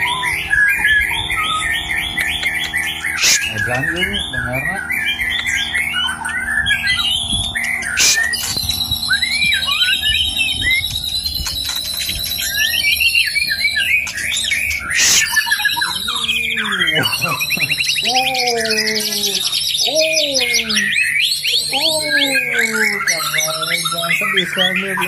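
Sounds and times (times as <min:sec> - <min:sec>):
lower falling bird call: 0:00.0 - 0:25.0
songbird whistled singing: 0:00.0 - 0:25.0.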